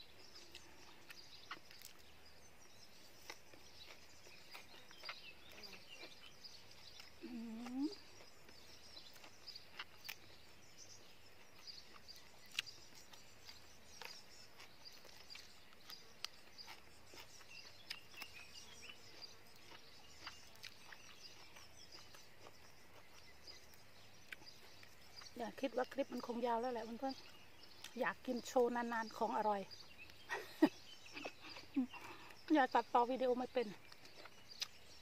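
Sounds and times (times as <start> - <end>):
faint birds chirping: 0.0 - 35.0.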